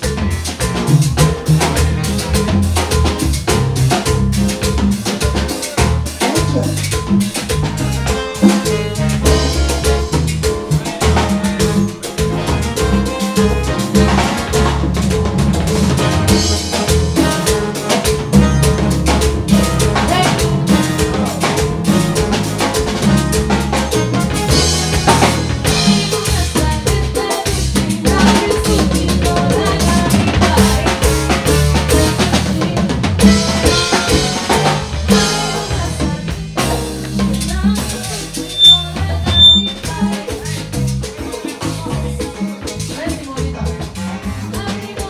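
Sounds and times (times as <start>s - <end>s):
band playing latin groove: 0.0s - 45.0s
drum kit and percussion: 0.0s - 45.0s.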